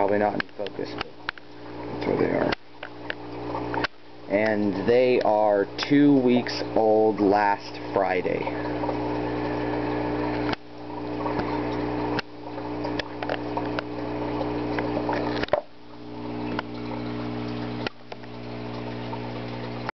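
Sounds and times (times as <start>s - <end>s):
aquarium air pump humming: 0.0s - 19.9s
water bubbling: 0.0s - 19.9s.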